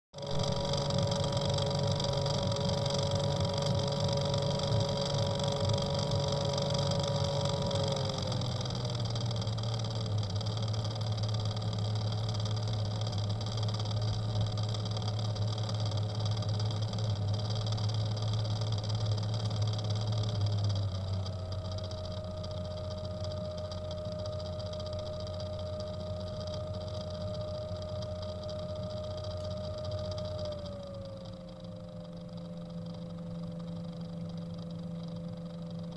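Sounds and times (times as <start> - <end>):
flow sensor rattling: 0.2 - 35.9
pump whine: 0.2 - 35.9.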